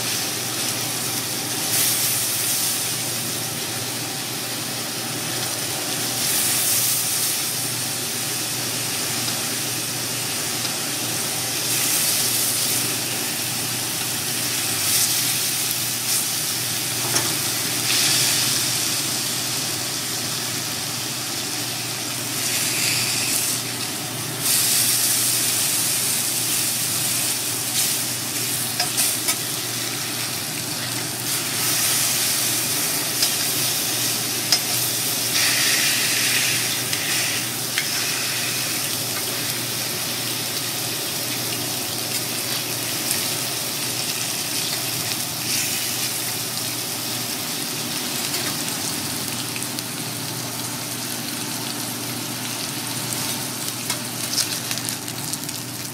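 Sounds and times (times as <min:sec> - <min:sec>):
meat sizzling on griddle: 0:00.0 - 0:55.9.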